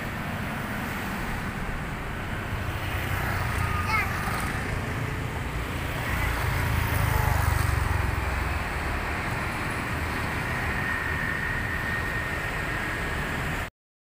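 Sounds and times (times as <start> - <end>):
cars passing: 0.0 - 13.7
motorcycles passing: 0.0 - 13.7.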